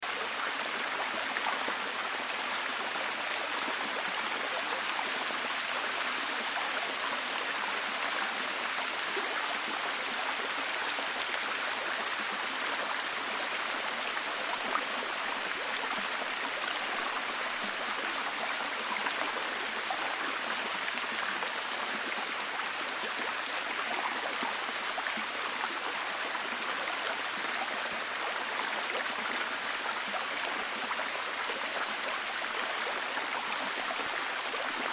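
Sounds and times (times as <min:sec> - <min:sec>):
small drips and ticks: 0:00.2 - 0:34.9.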